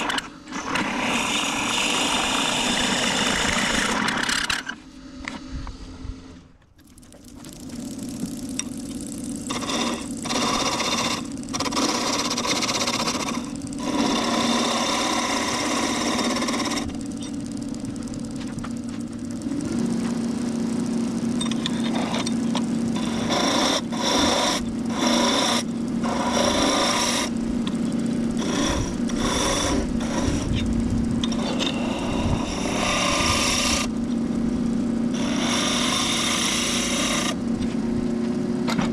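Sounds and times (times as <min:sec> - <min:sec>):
lathe motor hum: 0:00.0 - 0:38.9
tool scraping spinning wood: 0:00.0 - 0:38.9.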